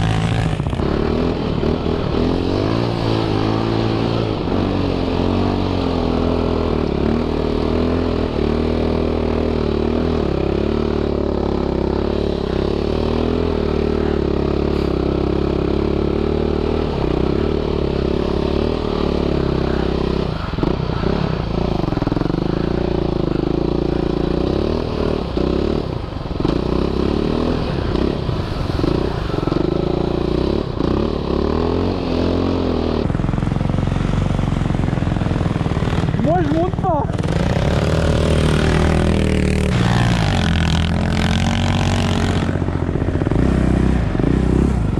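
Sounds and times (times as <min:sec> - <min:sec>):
quad bike engine revving: 0:00.0 - 0:44.9.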